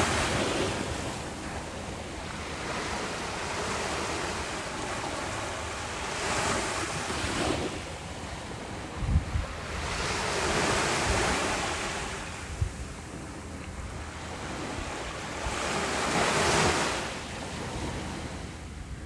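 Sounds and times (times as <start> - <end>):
ocean waves washing in: 0.0 - 19.0
wind buffeting microphone: 0.0 - 19.0.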